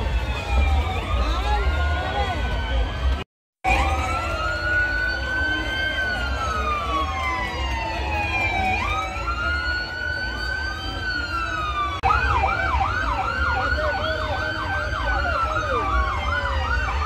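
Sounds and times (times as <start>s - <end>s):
police siren wailing and yelping: 0.0s - 17.0s.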